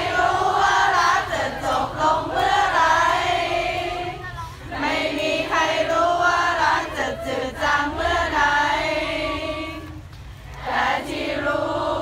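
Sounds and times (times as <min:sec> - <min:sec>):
crowd singing in unison: 0:00.0 - 0:12.0.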